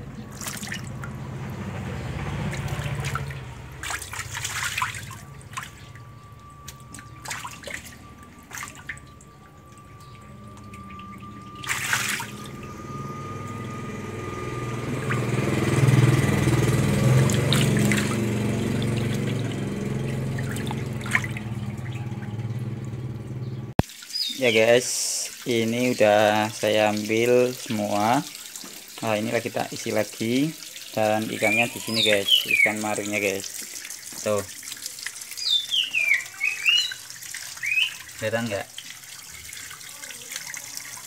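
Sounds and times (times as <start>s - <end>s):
draining water trickling: 0.0s - 41.0s
shallow water splashing: 0.1s - 23.1s, 23.8s - 41.0s.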